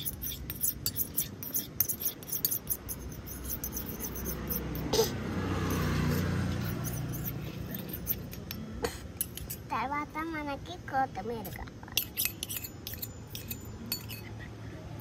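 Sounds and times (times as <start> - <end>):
metal spoon scraping a toy pan: 0.0 - 9.8, 11.4 - 15.0.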